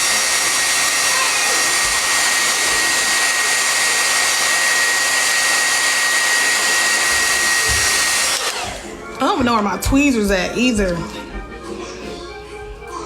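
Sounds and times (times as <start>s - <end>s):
hair dryer running: 0.0s - 10.7s.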